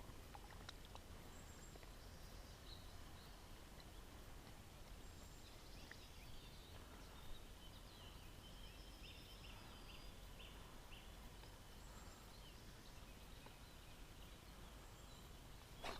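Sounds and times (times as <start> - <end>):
low outdoor background: 0.0 - 15.9.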